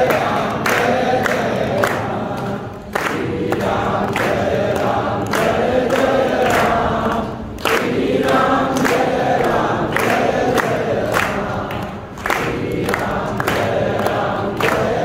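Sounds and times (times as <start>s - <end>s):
chorus singing devotional song: 0.0s - 15.0s.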